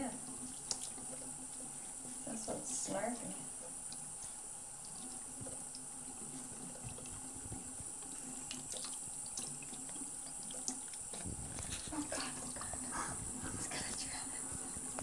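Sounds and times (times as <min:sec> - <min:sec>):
faucet running into a sink: 0:00.0 - 0:13.6
water splashes and drips: 0:00.0 - 0:15.0.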